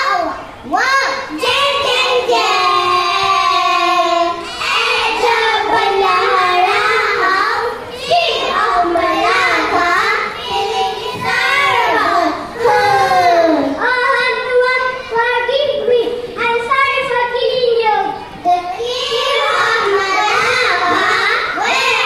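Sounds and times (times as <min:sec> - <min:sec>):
children singing: 0:00.0 - 0:14.2, 0:18.5 - 0:22.0.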